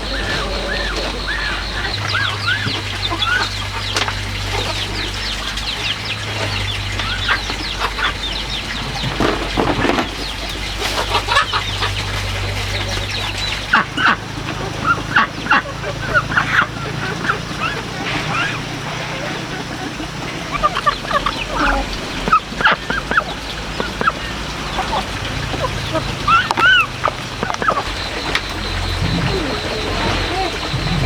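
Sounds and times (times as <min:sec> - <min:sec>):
chickens clucking: 0:00.0 - 0:31.0
chicks peeping: 0:00.0 - 0:31.0
steady low hum: 0:00.0 - 0:31.0.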